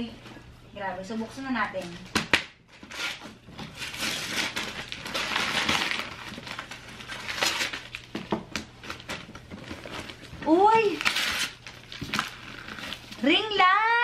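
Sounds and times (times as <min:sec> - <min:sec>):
wrapping paper tearing and crinkling: 0:02.7 - 0:14.0.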